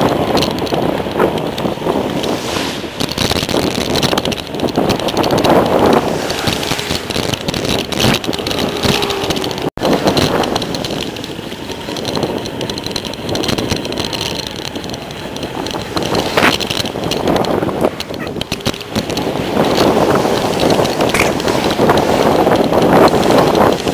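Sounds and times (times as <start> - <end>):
bicycle rattling on concrete: 0.0 - 23.9
wind on microphone: 0.0 - 23.9.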